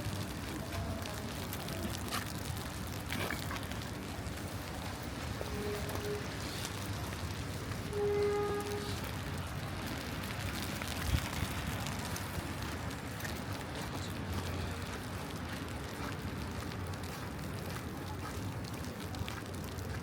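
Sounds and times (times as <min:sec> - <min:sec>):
passing traffic: 0:00.0 - 0:18.6
light rain hissing: 0:00.0 - 0:19.9.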